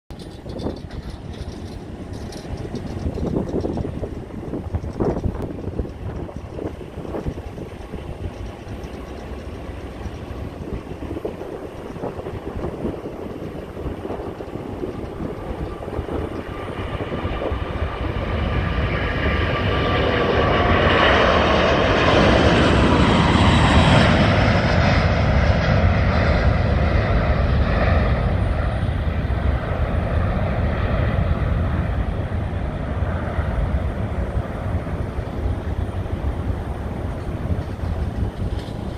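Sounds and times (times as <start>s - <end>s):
deep jet rumble: 0.1s - 38.9s
jet engines at takeoff: 0.1s - 38.9s.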